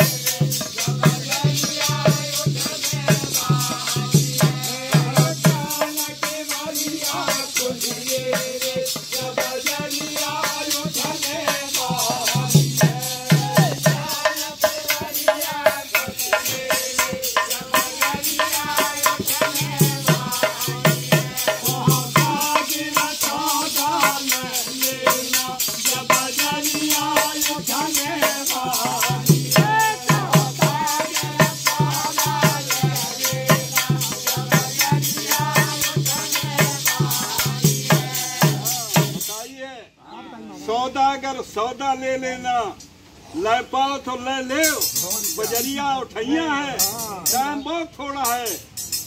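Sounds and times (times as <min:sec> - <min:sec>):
jingling metal rhythm: 0:00.0 - 0:39.3, 0:48.6 - 0:49.0
hand drum strokes: 0:00.0 - 0:39.4
men singing: 0:00.0 - 0:39.5.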